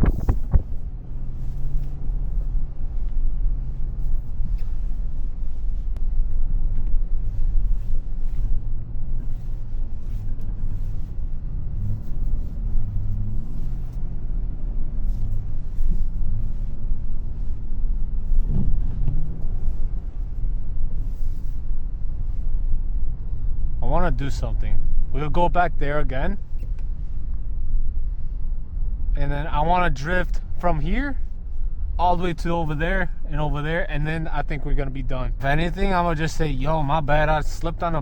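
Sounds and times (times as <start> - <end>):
truck engine rumbling: 0.0 - 38.0.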